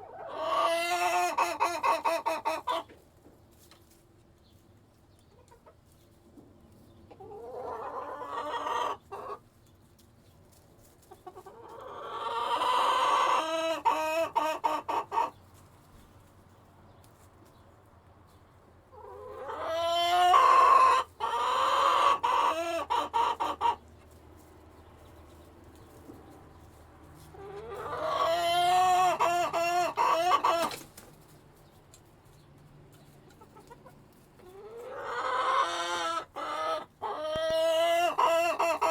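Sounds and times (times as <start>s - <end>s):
chickens calling: 0.0s - 38.9s.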